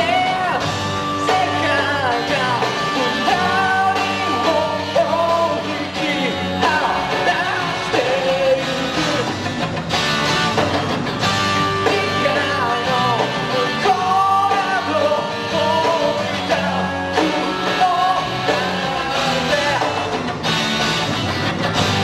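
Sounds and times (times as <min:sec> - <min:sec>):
man singing: 0:00.0 - 0:09.5, 0:11.8 - 0:20.2
bass guitar: 0:00.0 - 0:22.0
drum kit: 0:00.0 - 0:22.0
electric guitars: 0:00.0 - 0:22.0.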